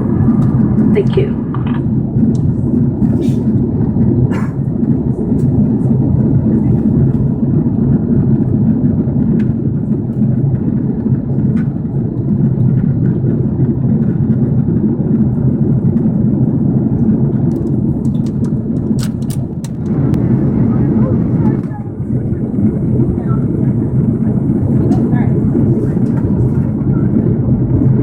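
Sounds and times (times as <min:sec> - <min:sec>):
airliner cabin engine rumble: 0:00.0 - 0:28.0.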